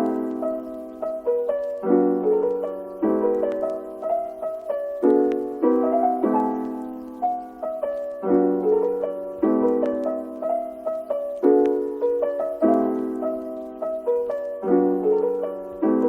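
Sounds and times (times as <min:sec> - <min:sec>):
soft jazz piano chords: 0:00.0 - 0:16.0.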